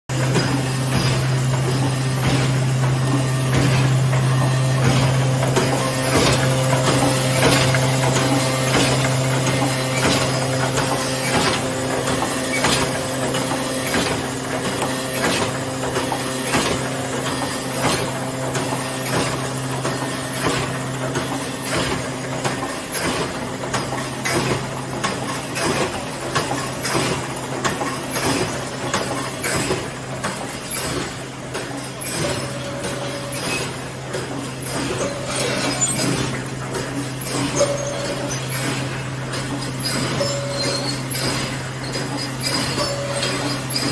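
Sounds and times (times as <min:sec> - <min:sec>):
welding machine hum: 0:00.1 - 0:43.9.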